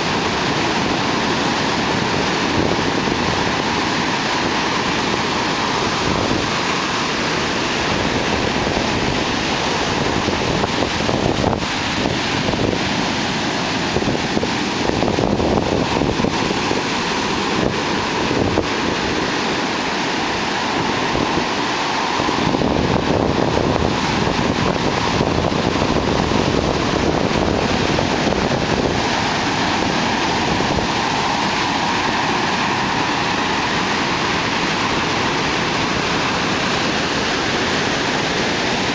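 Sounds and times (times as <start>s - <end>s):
ocean surf breaking: 0.0s - 38.9s
whitewash rushing up shore: 0.0s - 38.9s.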